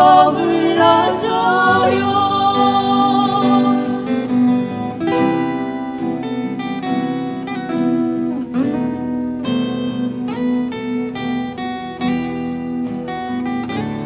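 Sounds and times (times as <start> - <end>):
slow ballad guitar backing track: 0.0 - 14.0.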